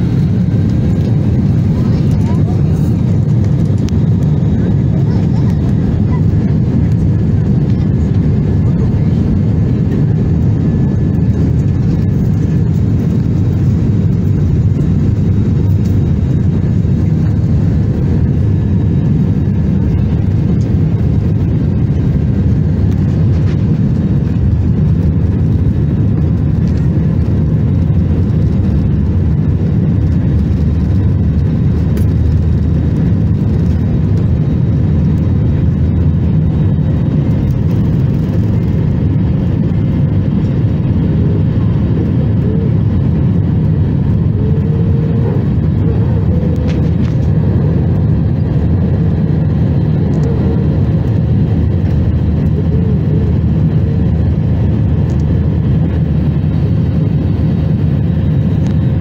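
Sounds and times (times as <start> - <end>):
airliner engine rumble in cabin: 0.0 - 59.0.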